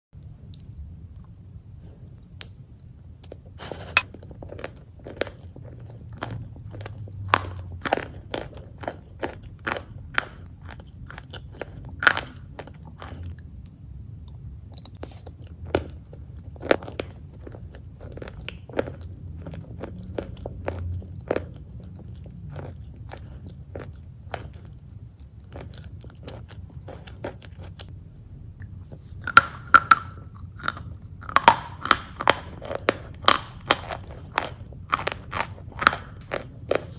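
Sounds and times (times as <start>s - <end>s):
person chewing crunchy food: 3.1s - 36.9s.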